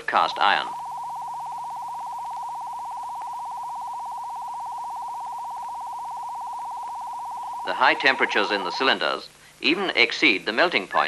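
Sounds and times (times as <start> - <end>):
warbling electronic tone: 0.0 - 9.2.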